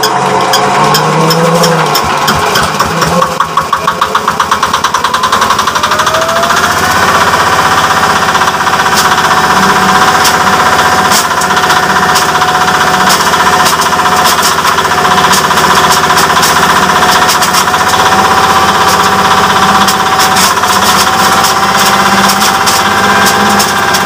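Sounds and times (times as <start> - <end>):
diesel engine chugging: 0.0 - 24.0
mill rotor whine: 0.0 - 24.0.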